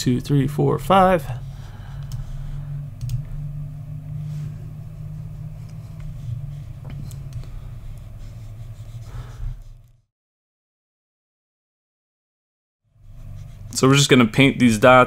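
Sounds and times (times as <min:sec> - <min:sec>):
steady low hum: 0:00.0 - 0:10.1, 0:12.9 - 0:15.0.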